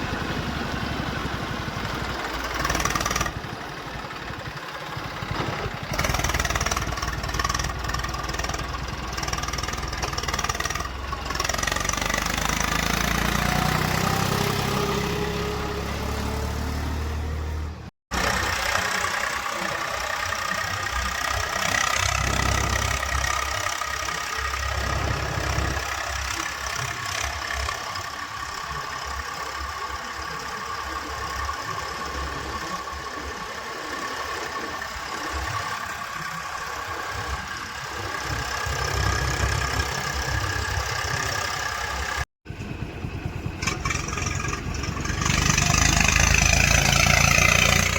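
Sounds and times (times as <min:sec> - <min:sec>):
heavy machinery diesel engines: 0:00.0 - 0:47.9.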